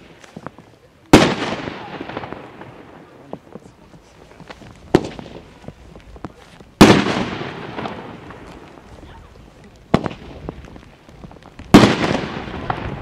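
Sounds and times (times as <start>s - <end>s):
firework bangs echoing: 0.0s - 13.0s
sharp firework report: 0.0s - 13.0s.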